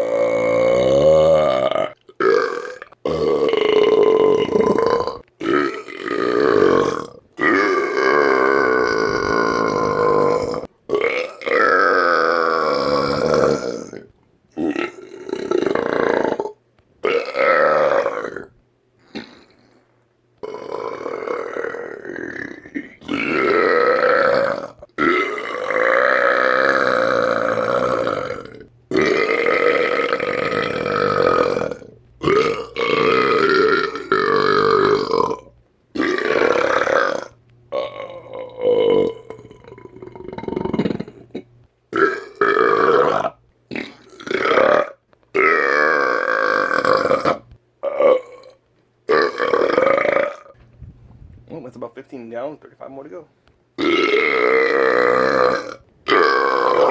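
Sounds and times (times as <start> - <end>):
man belching: 0.0 - 50.6, 53.8 - 56.9.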